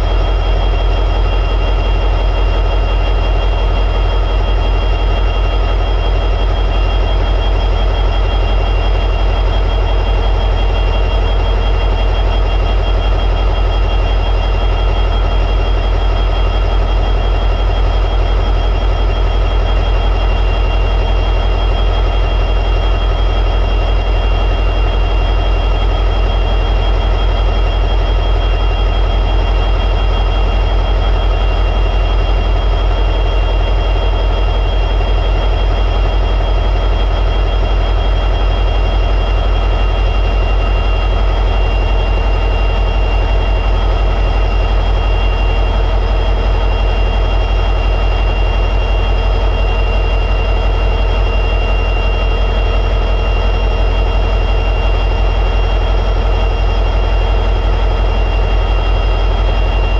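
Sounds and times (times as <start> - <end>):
high whine: 0.0 - 59.9.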